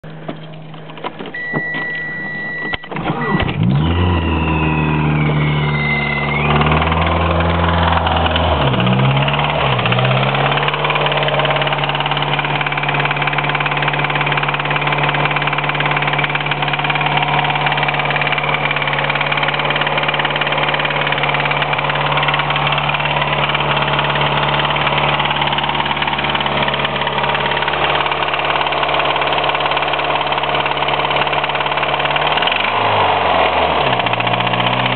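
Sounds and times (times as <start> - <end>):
engine starting and idling: 0.5 - 34.9
engine knocking: 6.5 - 34.9.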